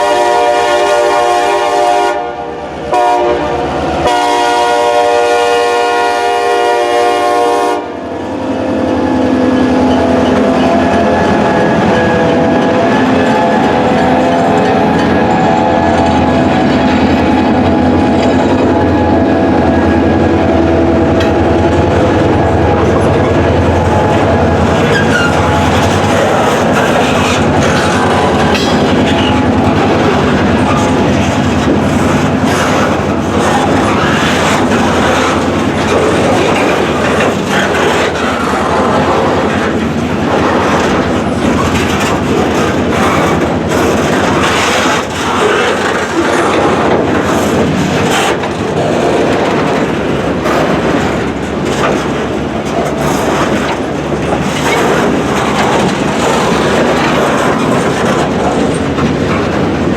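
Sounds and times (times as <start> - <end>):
train wheels clattering over rails: 2.7 - 59.9.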